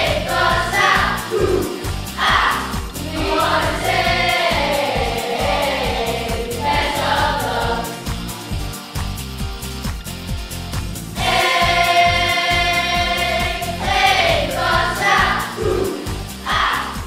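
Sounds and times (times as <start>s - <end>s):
choir singing over a beat: 0.0s - 8.4s, 11.2s - 17.0s.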